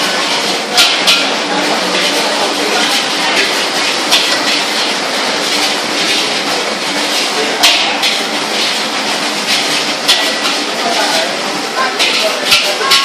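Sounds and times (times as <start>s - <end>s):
metal spatula clanging on wok: 0.0s - 13.0s
noodles sizzling in wok: 0.0s - 13.0s.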